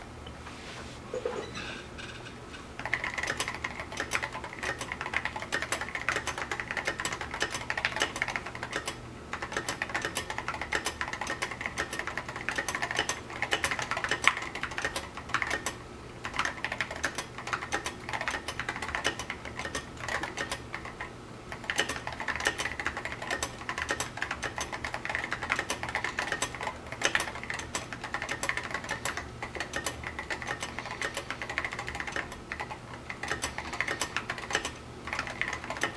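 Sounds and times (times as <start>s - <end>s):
mechanical keyboard typing: 2.8s - 35.9s.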